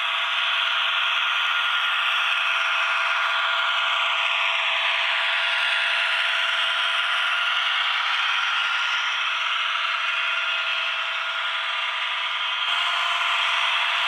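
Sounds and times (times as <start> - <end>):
diesel engine sound through small speaker: 0.0 - 14.0.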